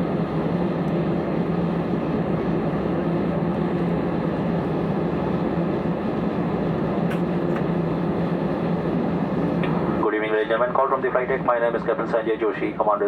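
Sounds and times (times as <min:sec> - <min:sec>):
aircraft engines humming: 0:00.0 - 0:13.0.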